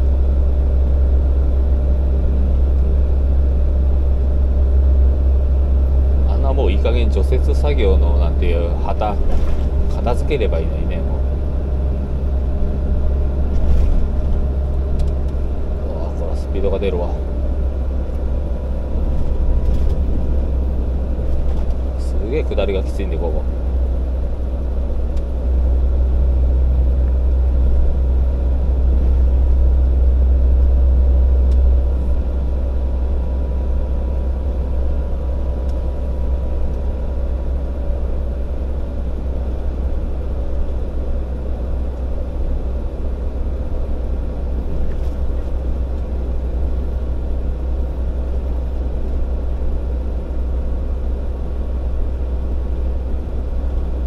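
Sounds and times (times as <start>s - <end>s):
faint steady whine: 0.0s - 54.0s
truck engine and road rumble: 0.0s - 54.0s.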